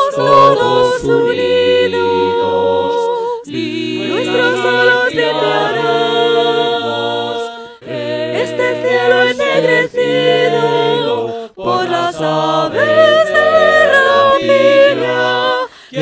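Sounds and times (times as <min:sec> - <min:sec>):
vocal quartet singing in harmony: 0:00.0 - 0:16.0.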